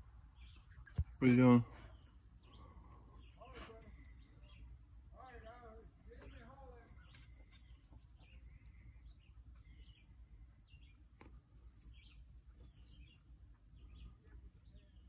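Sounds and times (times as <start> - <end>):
faint bird chirps: 0.0 - 15.0
low outdoor rumble: 0.0 - 15.0.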